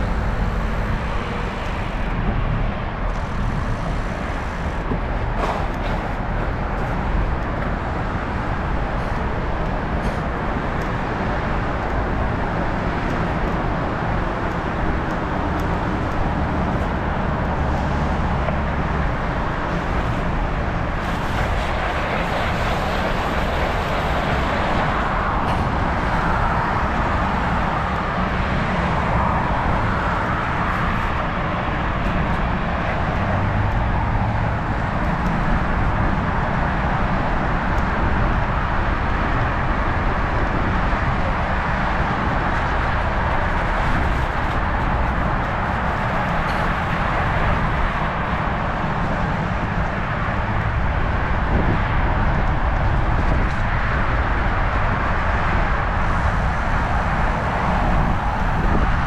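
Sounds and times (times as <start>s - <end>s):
road noise from bicycle ride: 0.0s - 59.0s.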